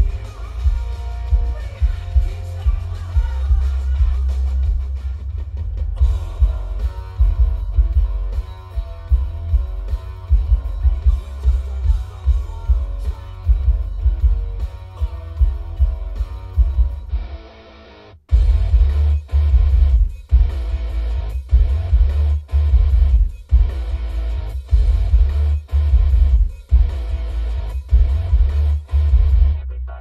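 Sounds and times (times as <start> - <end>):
heavy pulsing bass: 0.0 - 17.5, 18.3 - 30.0
guitar-driven song: 0.0 - 29.6.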